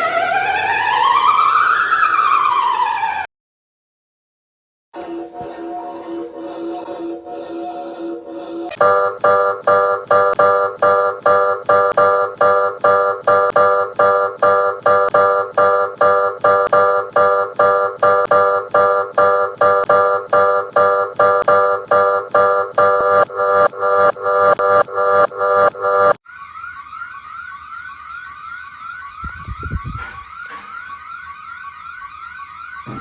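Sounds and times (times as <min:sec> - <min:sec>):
pulsing emergency alarm tone: 0:00.0 - 0:03.3, 0:05.0 - 0:33.0.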